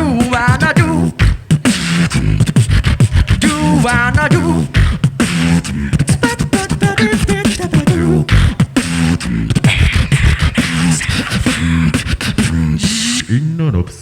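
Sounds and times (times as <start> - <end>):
beatboxing rhythm: 0.0 - 14.0
vocal bass line: 0.0 - 14.0
vocal melody lines: 0.0 - 14.0.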